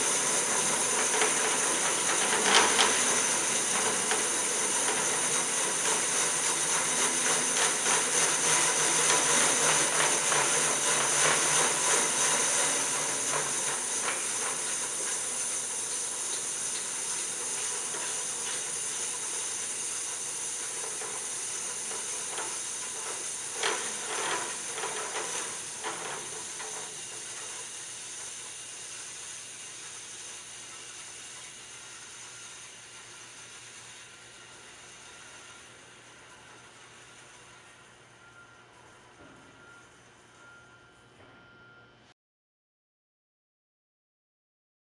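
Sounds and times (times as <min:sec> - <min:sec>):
band saw hiss and whine: 0:00.0 - 0:40.7.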